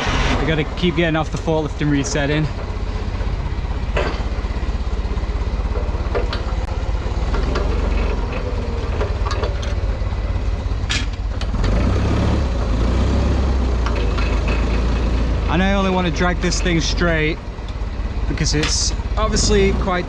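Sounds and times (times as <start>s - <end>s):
metal clanks and knocks: 0.0s - 11.8s, 13.7s - 20.0s
forklift engine running: 0.0s - 20.0s.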